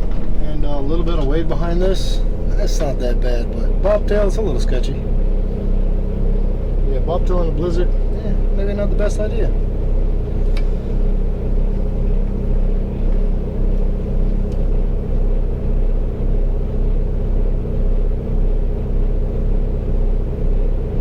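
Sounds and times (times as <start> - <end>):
truck diesel engine rumble: 0.0 - 21.0.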